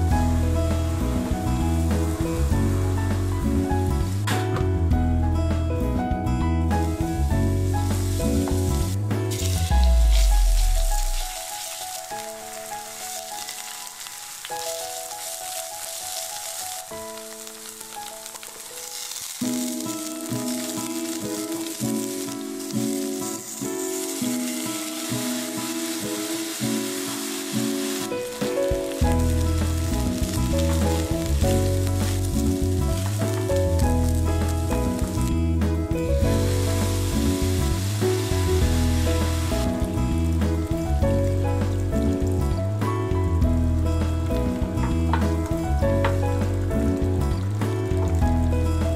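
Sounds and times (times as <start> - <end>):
vegetables sizzling in oil: 0.0 - 3.7, 6.8 - 48.9
background music: 0.0 - 48.9.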